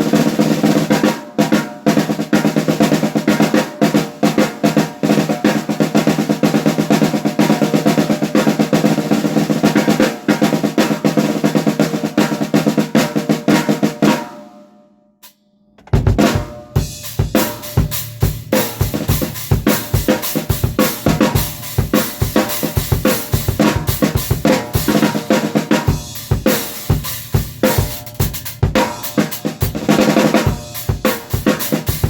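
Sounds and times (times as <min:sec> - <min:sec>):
snare drum rolls: 0:00.0 - 0:14.4, 0:15.2 - 0:32.0.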